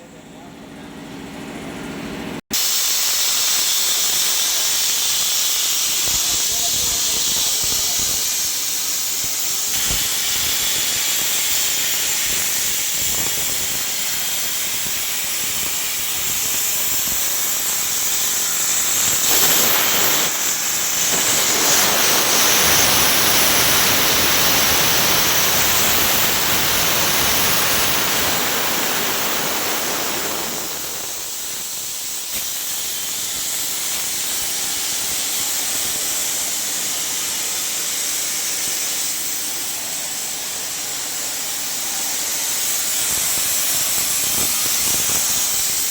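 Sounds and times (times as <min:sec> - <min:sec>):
plasma cutting torch hissing: 0:02.5 - 0:45.9.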